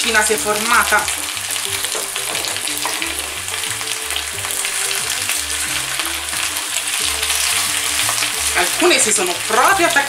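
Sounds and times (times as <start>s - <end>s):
background music low notes: 0.0s - 10.0s
potatoes sizzling in oil: 0.0s - 10.0s.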